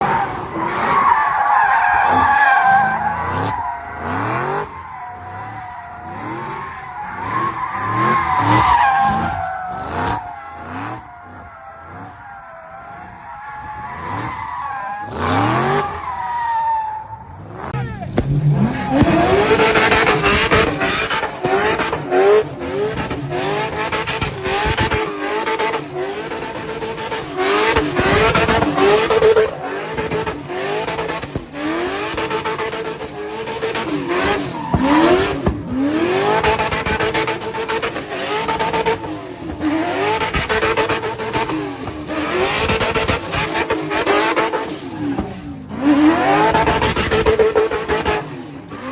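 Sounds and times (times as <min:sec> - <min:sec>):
car engine revving hard: 0:00.0 - 0:14.4, 0:15.0 - 0:16.0, 0:17.3 - 0:48.9.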